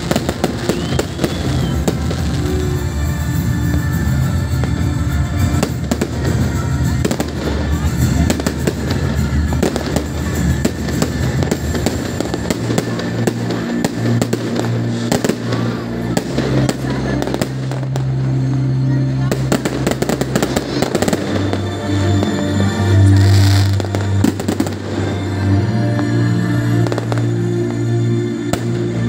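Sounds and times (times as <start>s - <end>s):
fireworks bangs and crackling: 0.0s - 29.0s
music: 0.0s - 29.0s.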